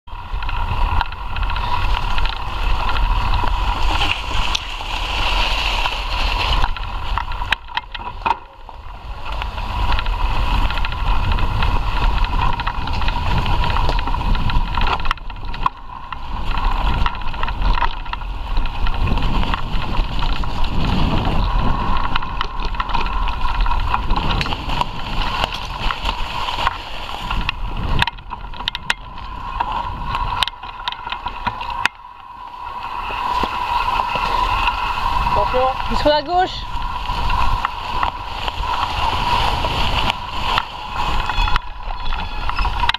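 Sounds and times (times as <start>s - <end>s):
bike tyres rumbling on dirt: 0.1s - 42.9s
wind buffeting microphone: 0.1s - 42.9s.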